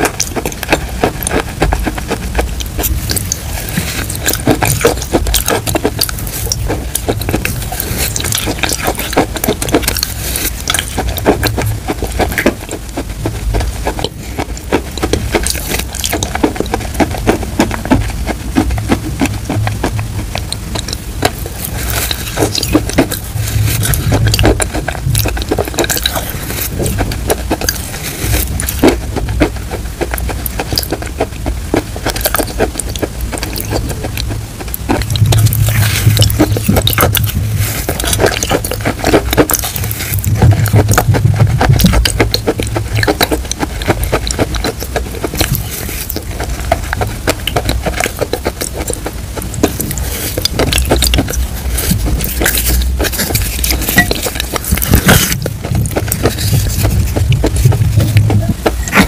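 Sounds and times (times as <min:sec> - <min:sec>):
wet chewing mouth sounds: 0:00.0 - 0:59.0.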